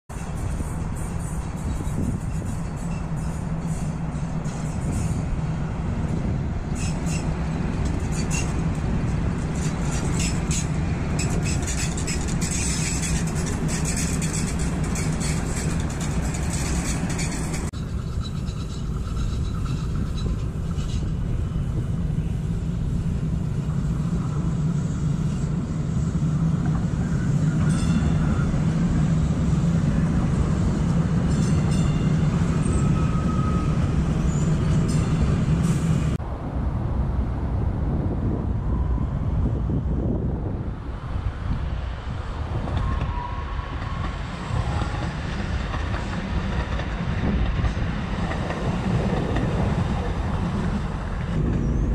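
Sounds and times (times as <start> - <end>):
approaching train hum: 0.1 - 51.9
light rail train running: 0.1 - 51.9.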